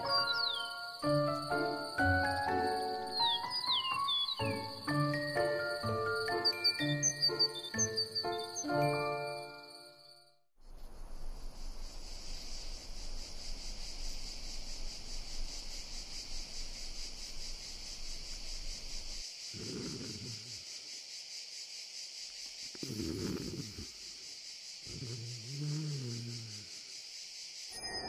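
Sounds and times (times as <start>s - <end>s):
insect chirring: 0.0s - 5.5s, 10.6s - 28.0s.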